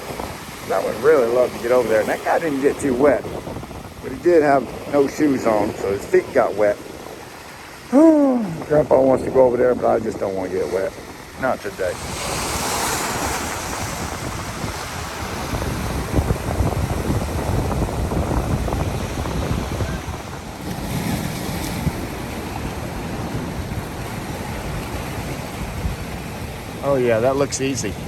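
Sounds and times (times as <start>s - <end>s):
ocean surf breaking on rocks: 0.0s - 28.0s
wind buffeting microphone: 0.0s - 28.0s.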